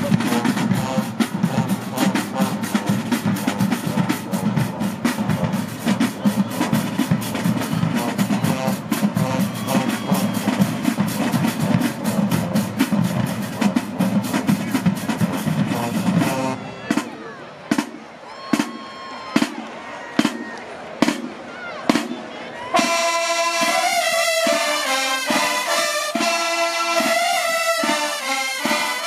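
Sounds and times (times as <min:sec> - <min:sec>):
drumline beat: 0:00.0 - 0:29.0
sousaphones and brass: 0:00.0 - 0:29.0.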